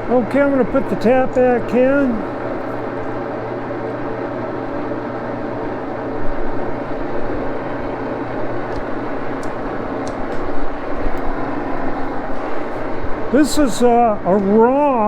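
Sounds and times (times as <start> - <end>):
lathe droning hum: 0.0 - 15.0.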